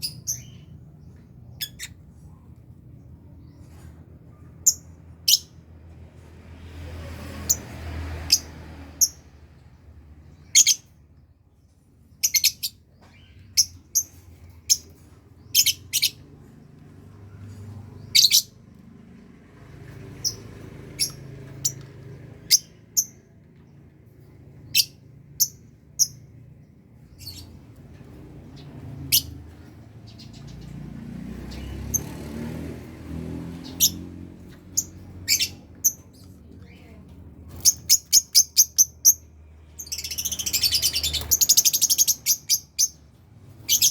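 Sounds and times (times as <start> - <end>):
lovebirds chirping: 0.0 - 5.6, 10.2 - 11.2, 11.9 - 18.6, 19.6 - 43.9.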